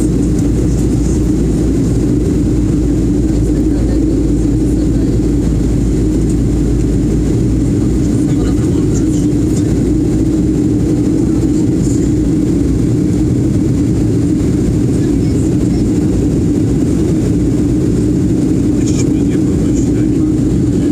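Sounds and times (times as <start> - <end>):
jet engine drone in cabin: 0.0 - 20.9.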